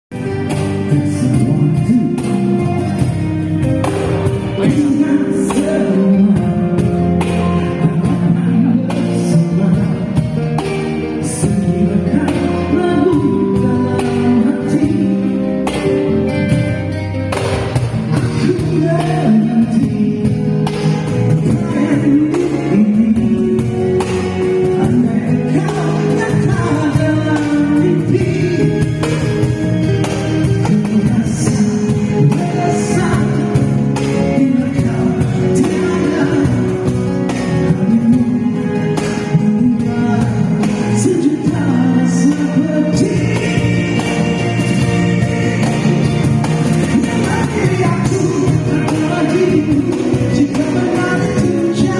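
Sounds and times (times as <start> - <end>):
acoustic guitar: 0.1 - 51.9
person singing: 0.1 - 51.9.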